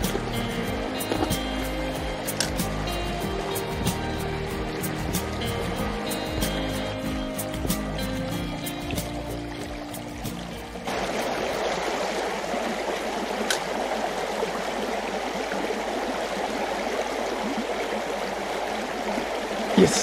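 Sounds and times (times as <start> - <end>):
river rushing and gurgling: 0.0 - 20.0.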